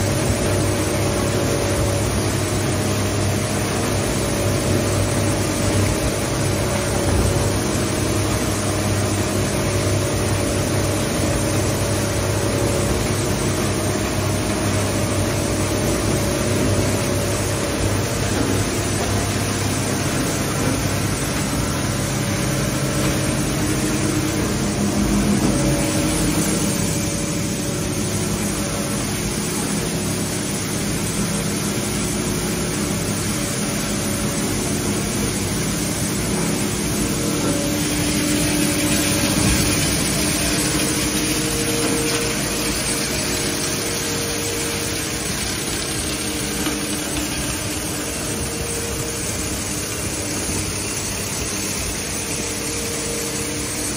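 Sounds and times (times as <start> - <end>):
industrial shredder droning: 0.0 - 53.9.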